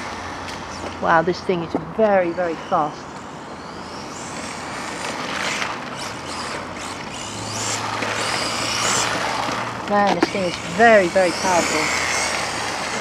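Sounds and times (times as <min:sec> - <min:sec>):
rc car electric motor whining: 0:00.0 - 0:13.0.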